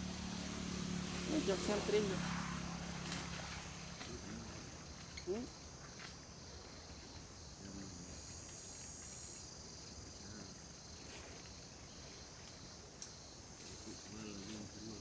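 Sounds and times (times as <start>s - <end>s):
high insect chirring: 0.0s - 15.0s.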